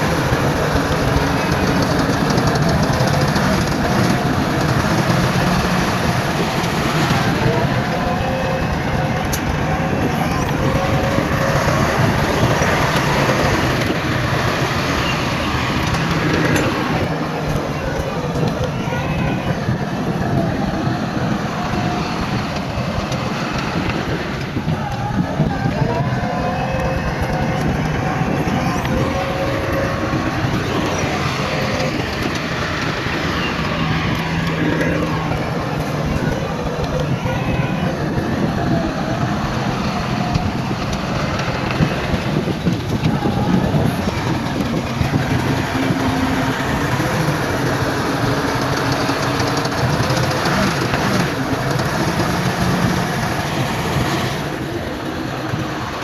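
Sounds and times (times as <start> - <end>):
clanks and clicks: 0.0 - 56.0
heavy diesel machinery running: 0.0 - 56.0.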